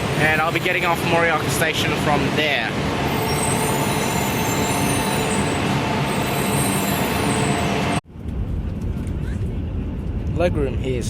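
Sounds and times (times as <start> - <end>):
train hum and whine: 0.0 - 10.3.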